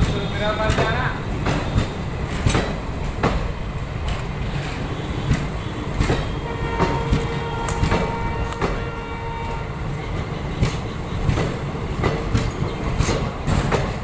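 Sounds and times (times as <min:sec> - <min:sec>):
train rumble: 0:00.0 - 0:14.0
wheels clacking over rail joints: 0:00.0 - 0:14.0.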